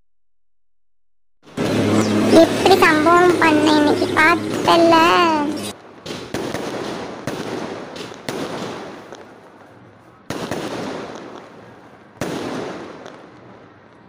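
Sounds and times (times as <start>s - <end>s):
firecrackers bursting and crackling: 1.5s - 14.0s.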